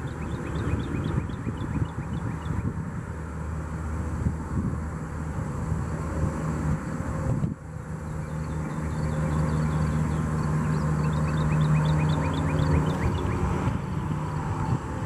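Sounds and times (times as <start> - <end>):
distant engine droning: 0.0 - 15.0.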